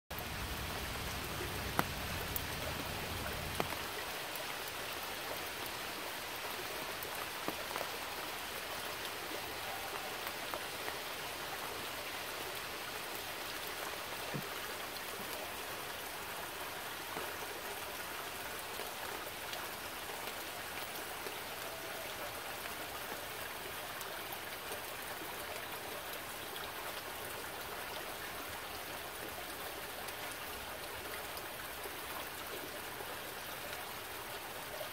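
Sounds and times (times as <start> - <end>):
steady rain falling: 0.1 - 34.9
stream running among rocks: 0.1 - 34.9.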